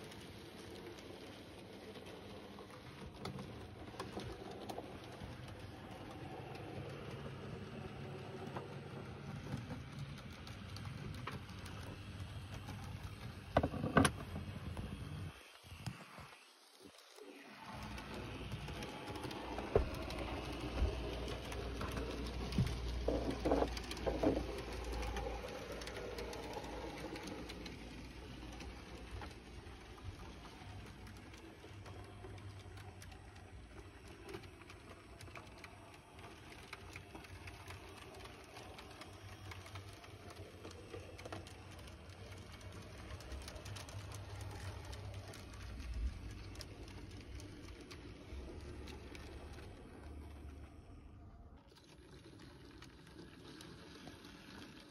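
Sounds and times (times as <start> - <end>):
small model train motor hum: 0.0 - 54.9
wheels clicking on rails: 0.0 - 54.9.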